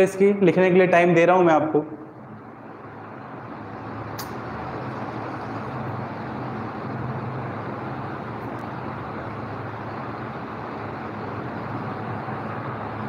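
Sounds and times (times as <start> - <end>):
low hum: 1.8 - 13.0
hiss and rumble: 1.9 - 13.0.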